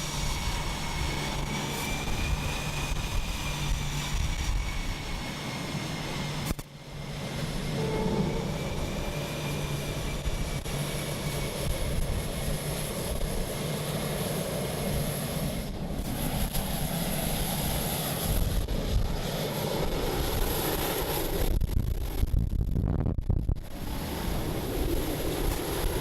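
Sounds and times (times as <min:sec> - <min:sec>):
aircraft engines running: 0:00.0 - 0:26.0.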